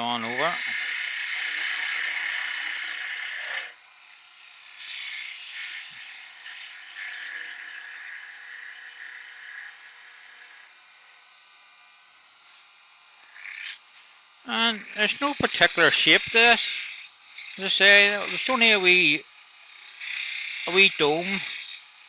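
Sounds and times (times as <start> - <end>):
gouge cutting wood on a lathe: 0.0 - 10.8, 13.2 - 22.0.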